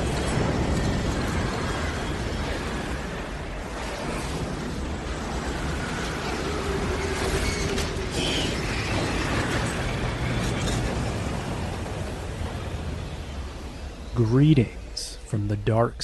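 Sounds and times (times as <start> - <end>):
faint howling glides: 0.0 - 15.3
roaring storm wind: 0.0 - 16.0.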